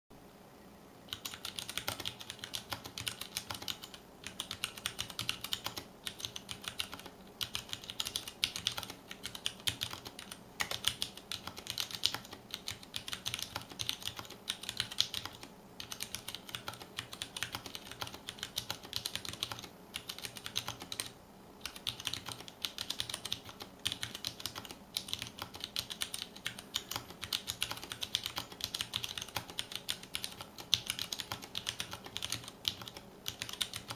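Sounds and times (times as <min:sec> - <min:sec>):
mechanical keyboard typing: 0:01.1 - 0:33.9.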